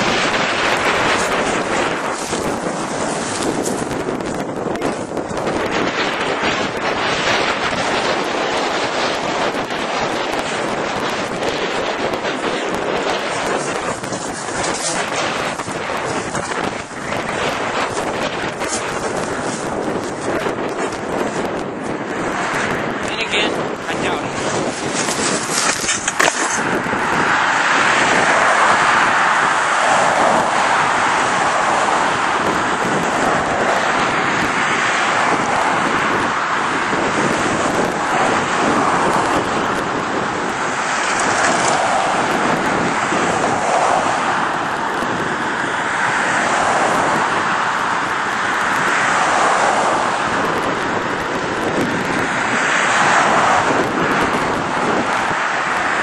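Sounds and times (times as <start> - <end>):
cars passing: 0.0 - 56.0.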